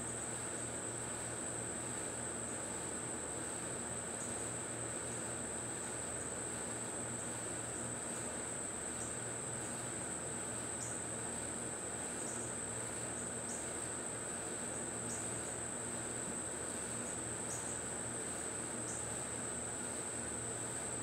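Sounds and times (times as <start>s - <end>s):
insects trilling: 0.1s - 21.0s.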